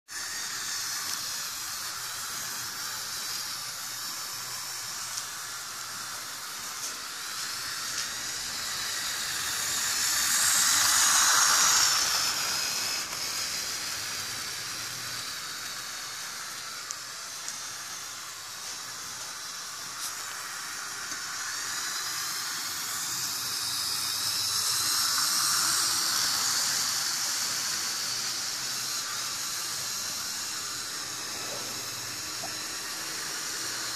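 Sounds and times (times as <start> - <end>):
model train motor and wheels hissing: 0.1 - 33.9.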